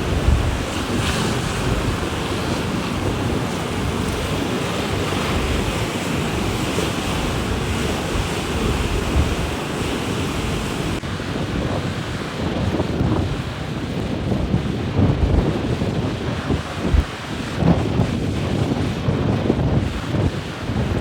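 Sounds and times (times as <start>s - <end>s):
storm wind gusting: 0.0s - 21.0s
wind buffeting microphone: 0.0s - 21.0s.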